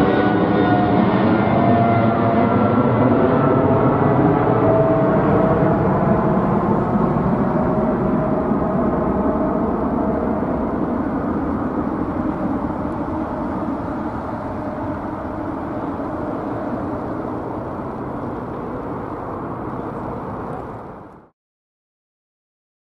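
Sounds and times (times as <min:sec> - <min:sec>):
jet airliner rumble: 0:00.0 - 0:21.3.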